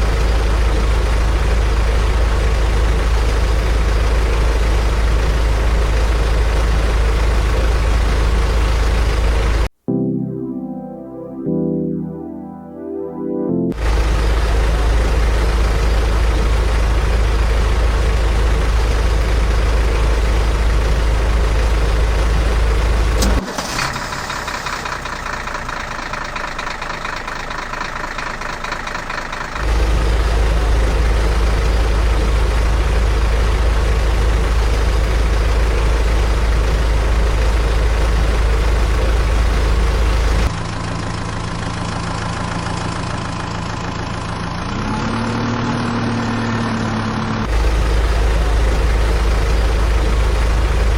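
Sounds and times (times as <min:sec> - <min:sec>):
engine running with deep rumble: 0:00.0 - 0:09.7, 0:13.8 - 0:50.9.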